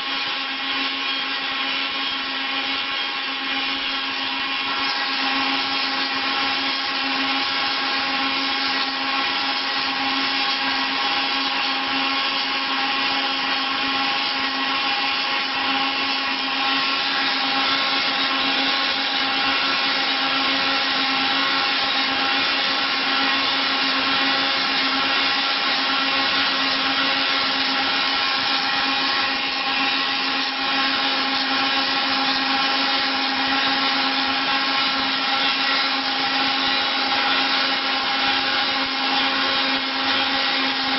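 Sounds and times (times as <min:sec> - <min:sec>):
milling machine motor whine: 0:00.0 - 0:40.9.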